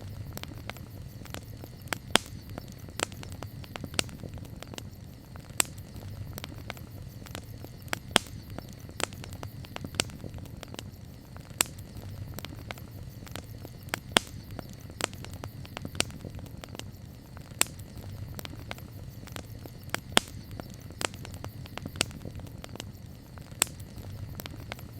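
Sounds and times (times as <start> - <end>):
campfire crackling: 0.0 - 24.9
low fire rumble: 0.0 - 24.9.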